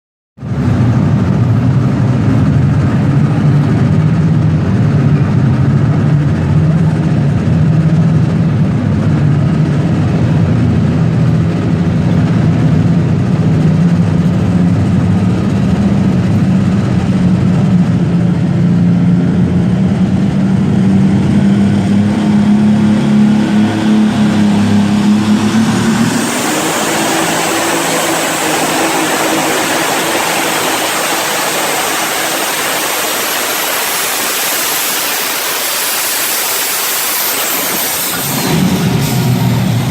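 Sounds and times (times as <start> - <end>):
tractor engine revving: 0.4 - 39.9.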